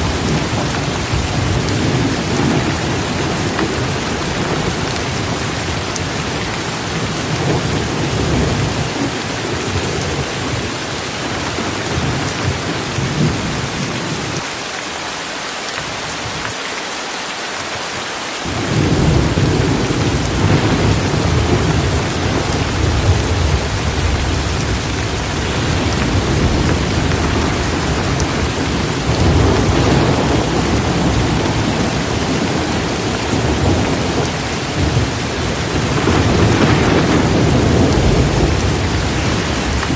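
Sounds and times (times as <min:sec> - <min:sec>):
thunder rumbling: 0:00.0 - 0:14.4, 0:18.5 - 0:39.9
heavy rain: 0:00.0 - 0:39.9.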